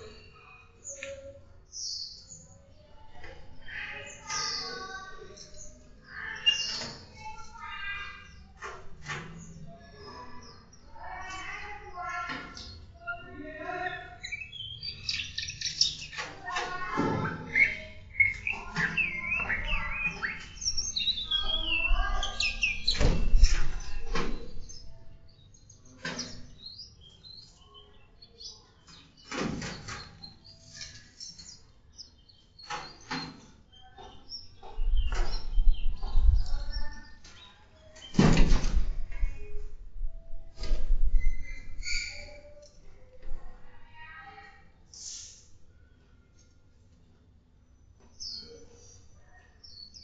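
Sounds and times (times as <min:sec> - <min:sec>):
songbirds chirping and warbling: 0:00.0 - 0:50.0.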